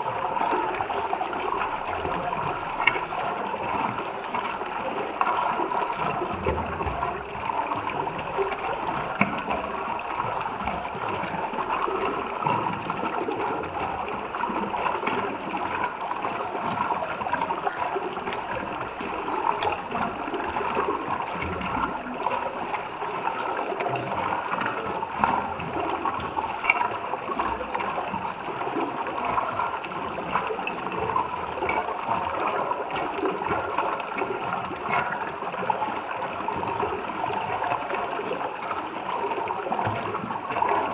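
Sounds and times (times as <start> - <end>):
water bubbling and gurgling: 0.0 - 40.9.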